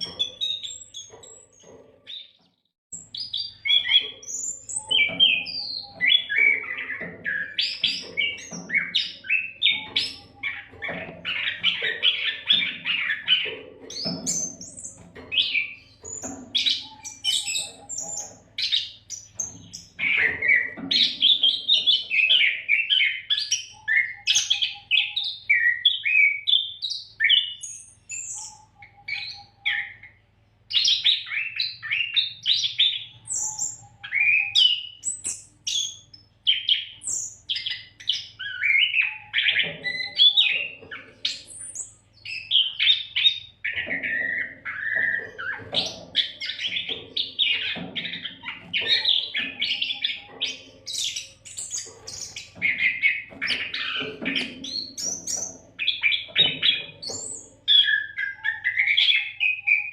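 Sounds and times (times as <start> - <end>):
bird singing whistles and trills: 3.0 - 59.9.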